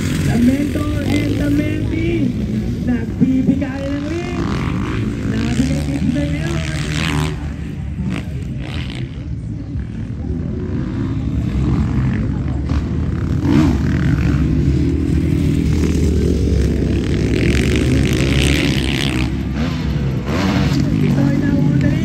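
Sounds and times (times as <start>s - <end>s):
motocross bikes racing: 0.0s - 22.0s.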